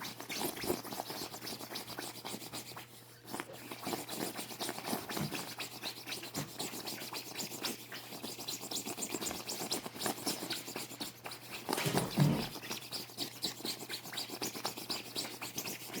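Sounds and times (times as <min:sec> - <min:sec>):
fingers scratching feathers: 0:00.0 - 0:16.0.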